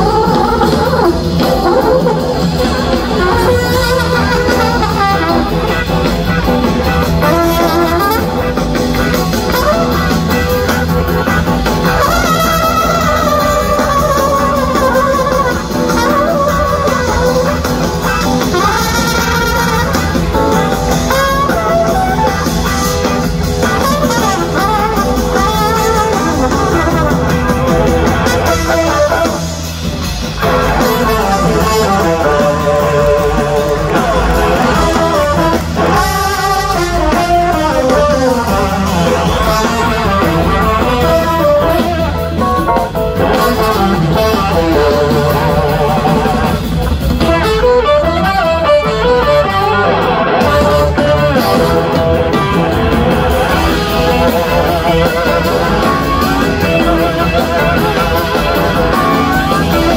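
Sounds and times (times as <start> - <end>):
drum kit: 0.0 - 59.9
electric guitar lead: 0.0 - 59.9.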